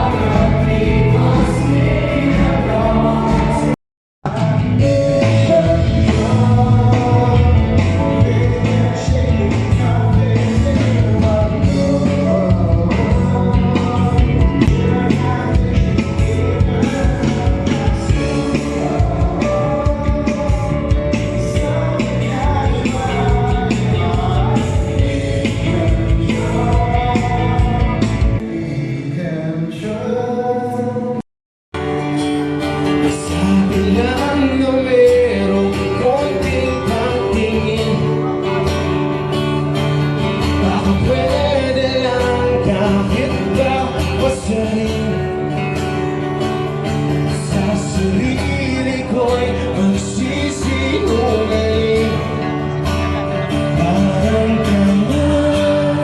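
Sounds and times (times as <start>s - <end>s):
song with singing voice: 0.0s - 31.2s, 31.8s - 56.0s.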